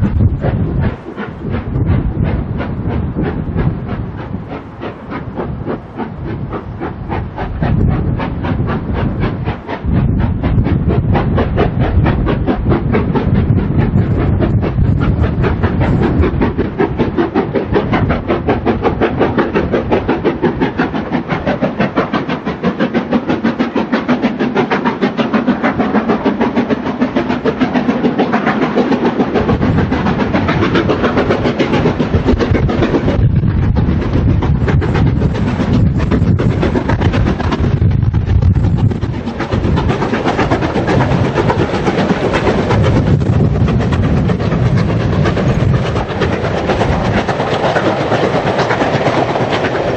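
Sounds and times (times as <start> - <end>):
steam train running: 0.0 - 49.9
steam hiss: 0.3 - 37.8, 38.6 - 49.9.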